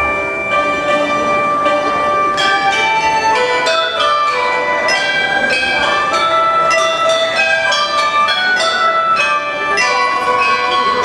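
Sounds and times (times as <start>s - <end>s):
bronze chime bells melody: 0.0s - 11.0s.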